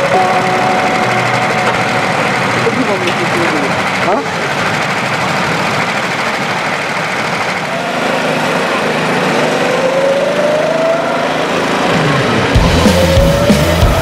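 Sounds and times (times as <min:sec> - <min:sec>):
go-kart engine whine accelerating: 0:00.0 - 0:14.0
go-kart engines running: 0:00.0 - 0:14.0.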